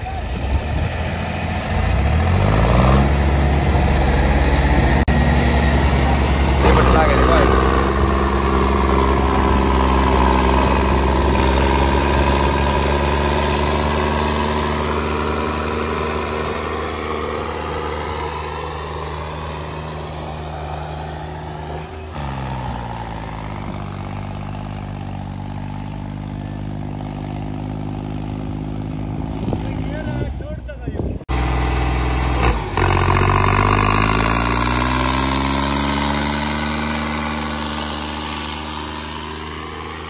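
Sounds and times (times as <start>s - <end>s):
tractor diesel engines droning: 0.0s - 40.0s.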